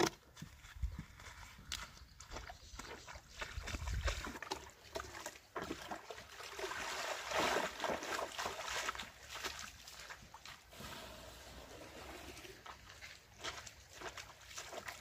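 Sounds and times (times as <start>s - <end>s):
person wading splashing: 2.4s - 15.0s
water sloshing in container: 2.8s - 15.0s.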